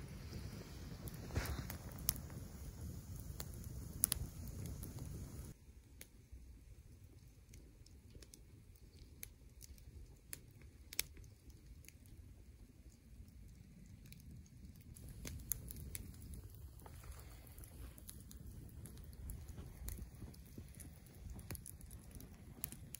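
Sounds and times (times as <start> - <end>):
faint low wind rumble: 0.0 - 22.9
sharp ticks and pops: 0.2 - 6.1, 7.0 - 22.9.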